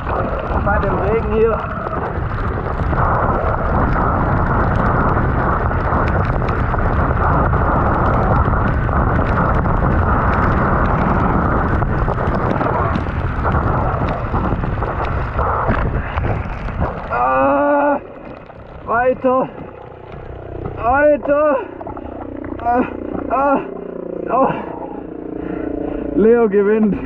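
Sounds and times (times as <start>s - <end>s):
tyres rolling over wet gravel: 0.0s - 24.8s
wind buffeting microphone: 0.0s - 27.0s.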